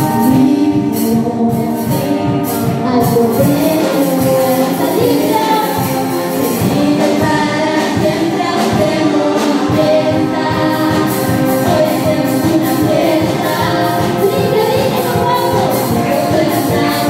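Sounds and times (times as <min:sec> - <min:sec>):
electric guitar: 0:00.0 - 0:17.0
keyboard: 0:00.0 - 0:17.0
women singing praise song: 0:03.0 - 0:17.0.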